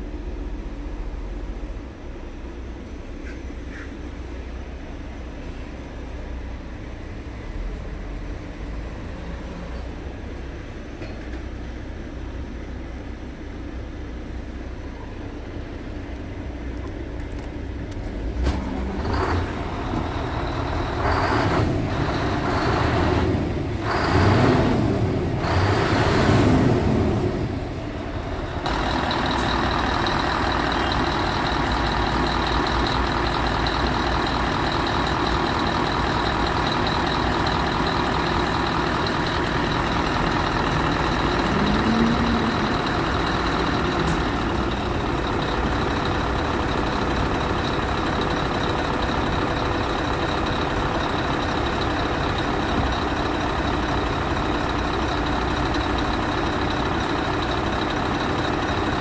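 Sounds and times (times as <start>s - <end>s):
truck diesel engine idling and revving: 0.0s - 59.0s.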